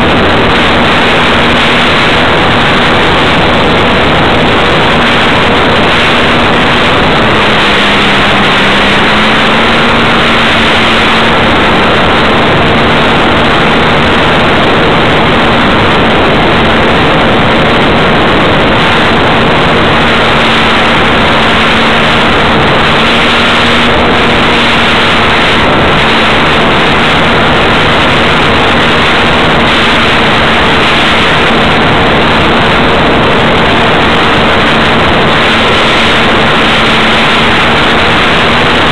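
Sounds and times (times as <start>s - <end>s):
model aircraft motor and propeller: 0.0s - 38.9s
wind rush: 0.0s - 38.9s.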